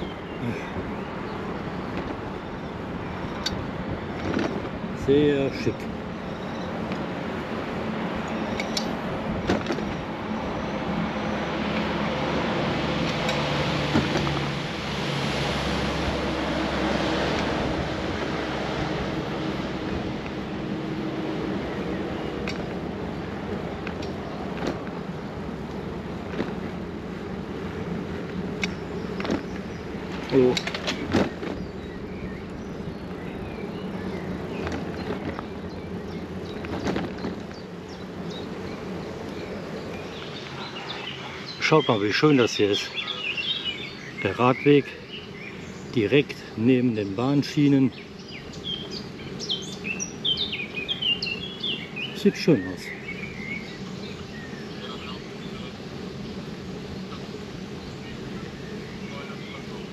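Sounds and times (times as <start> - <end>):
small birds chirping: 0.0 - 14.9, 15.5 - 59.9
bicycle tyres rolling on path: 0.0 - 59.9.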